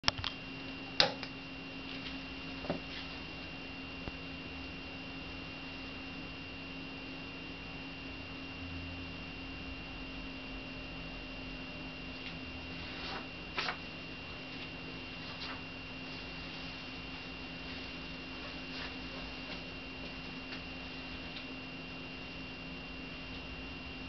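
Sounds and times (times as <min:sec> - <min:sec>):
steady electrical hum: 0:00.0 - 0:24.0
high-pitched whine: 0:00.1 - 0:24.0.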